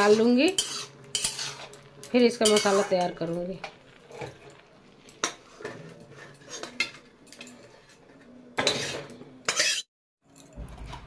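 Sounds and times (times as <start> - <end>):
metal spatula scraping metal pan: 0.0 - 9.9.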